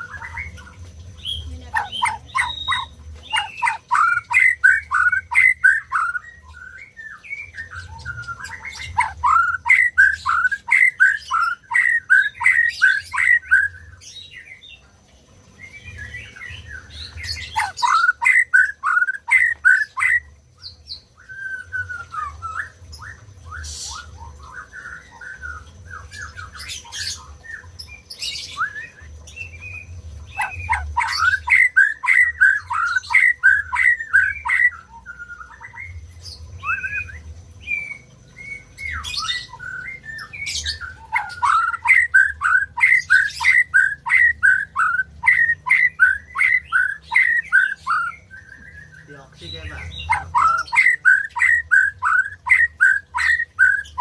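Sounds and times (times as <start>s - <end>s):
bird singing repeated falling notes: 0.0s - 54.0s.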